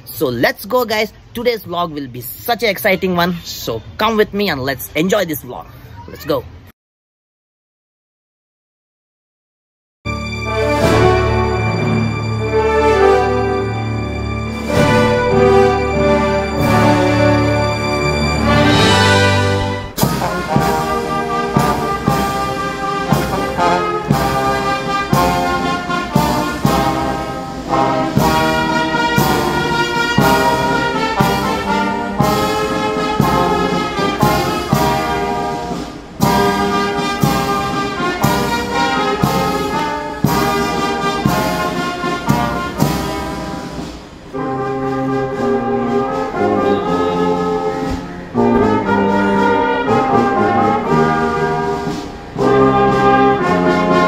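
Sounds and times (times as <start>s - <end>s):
brass band music: 10.1s - 54.0s.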